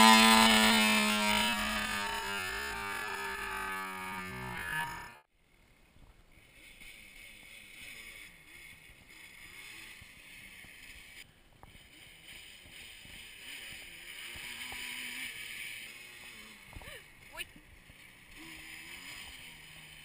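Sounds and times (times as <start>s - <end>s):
distant quad bike engine revving: 0.0s - 20.0s.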